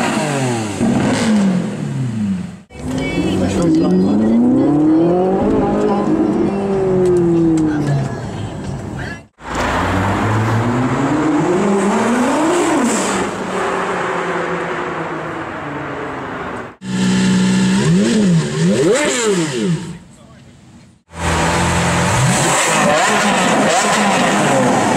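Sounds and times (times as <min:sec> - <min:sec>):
supercar engines revving: 0:00.0 - 0:08.1, 0:08.8 - 0:20.2, 0:21.1 - 0:24.9.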